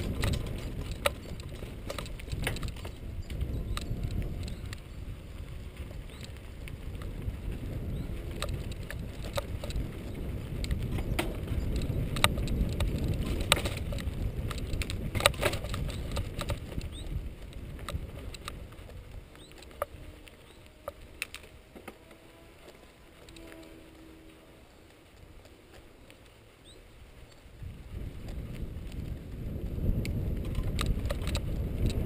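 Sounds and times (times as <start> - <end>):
bike clicks and rattles: 0.0 - 32.0
bike tyres rumbling on grass: 0.0 - 32.0.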